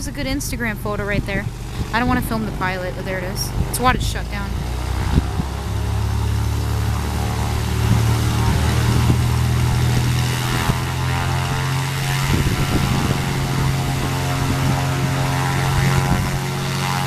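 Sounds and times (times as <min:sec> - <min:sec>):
light aircraft engine and propeller: 0:00.0 - 0:17.0.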